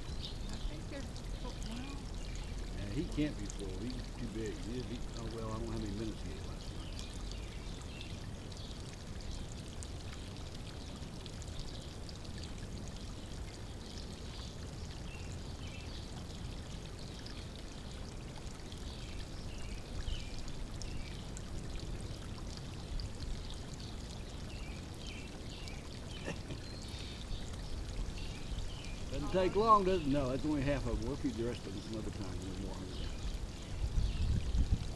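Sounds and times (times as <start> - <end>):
water pouring into pond: 0.0 - 34.9.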